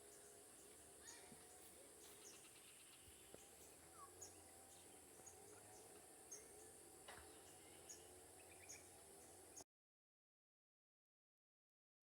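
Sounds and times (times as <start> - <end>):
high insect drone: 0.0 - 9.6.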